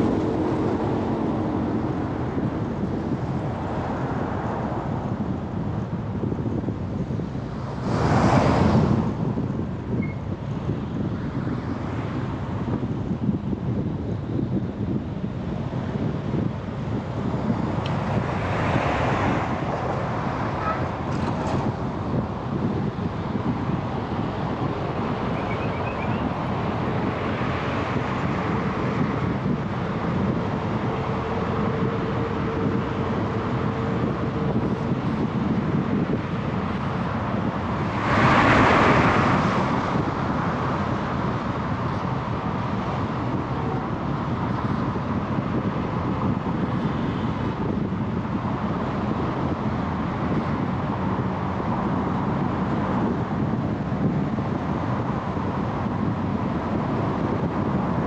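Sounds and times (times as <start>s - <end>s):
highway traffic rumble: 0.0s - 58.0s
vehicles passing close: 0.0s - 58.0s
wind on microphone: 0.0s - 58.0s.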